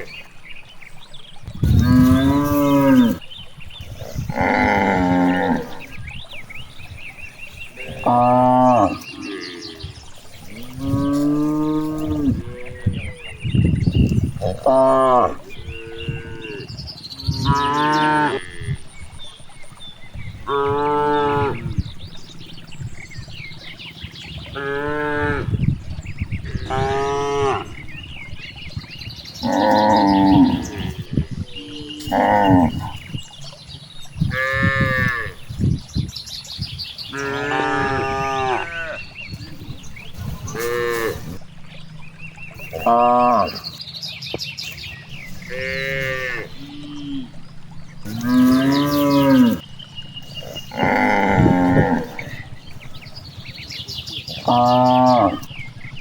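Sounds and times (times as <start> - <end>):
cows mooing: 1.5 - 3.3, 3.9 - 6.1, 7.6 - 18.9, 20.3 - 23.7, 24.4 - 28.5, 29.3 - 33.1, 34.2 - 35.5, 37.1 - 43.8, 45.0 - 53.6, 54.2 - 56.0.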